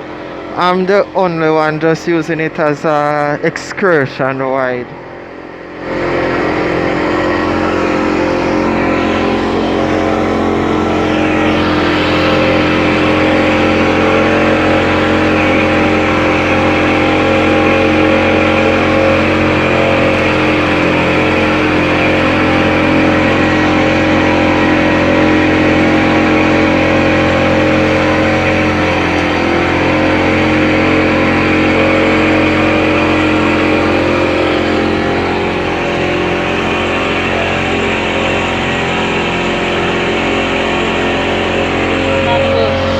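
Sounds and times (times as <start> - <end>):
speedboat engine running: 0.0 - 42.9.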